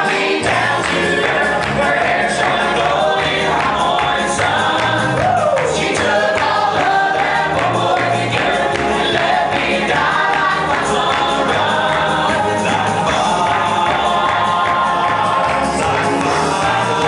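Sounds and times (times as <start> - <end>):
group of voices singing: 0.0 - 17.0
upbeat accompaniment with steady beat: 0.0 - 17.0.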